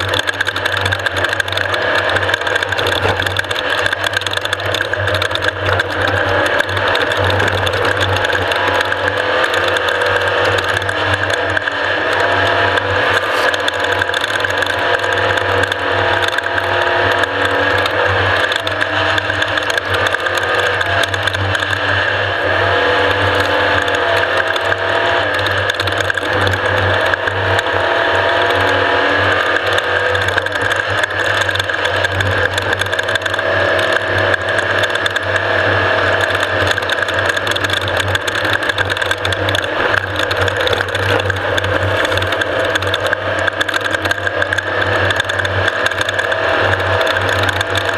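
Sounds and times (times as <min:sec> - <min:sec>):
dense rattling and clatter: 0:00.0 - 0:47.9
race vehicle engine revving: 0:00.0 - 0:47.9.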